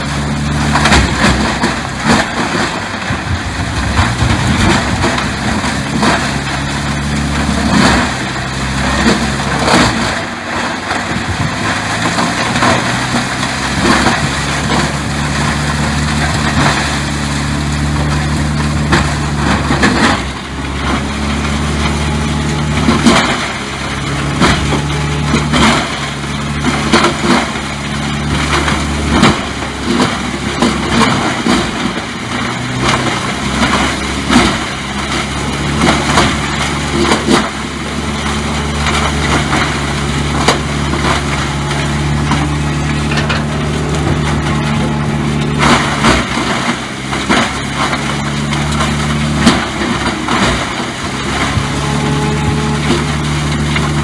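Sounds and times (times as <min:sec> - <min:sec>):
heavy machine engine running: 0:00.0 - 0:54.0
wood cracking and knocking: 0:00.0 - 0:54.0.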